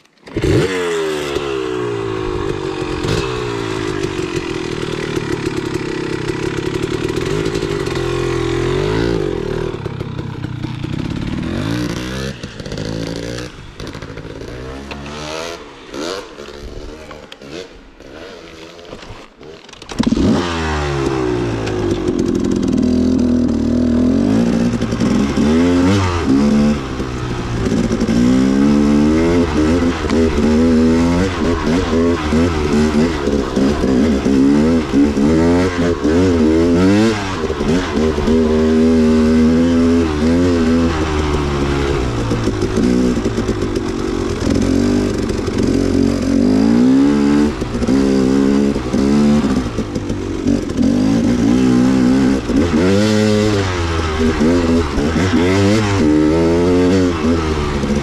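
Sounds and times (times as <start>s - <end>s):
off-road vehicle engine revving: 0.3s - 19.0s, 19.9s - 58.0s.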